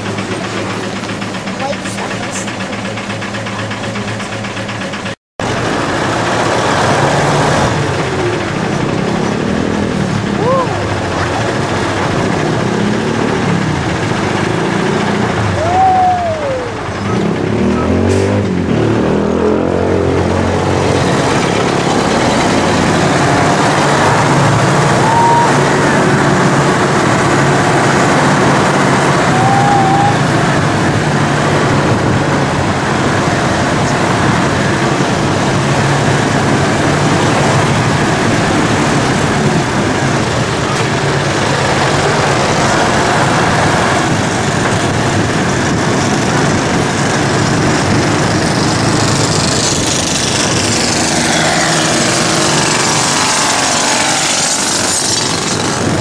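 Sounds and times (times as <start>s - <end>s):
bus engine running: 0.0s - 56.0s
road noise: 0.0s - 56.0s.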